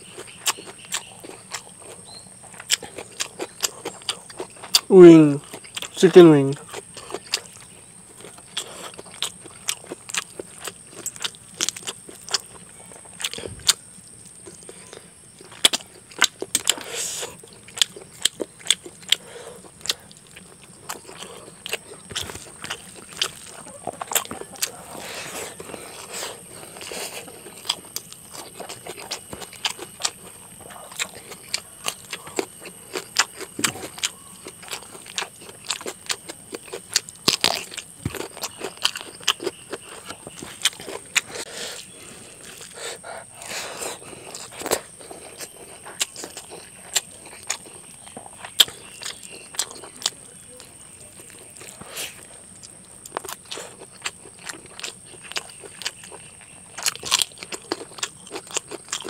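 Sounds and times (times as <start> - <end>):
wet chewing and smacking: 0.0 - 59.0.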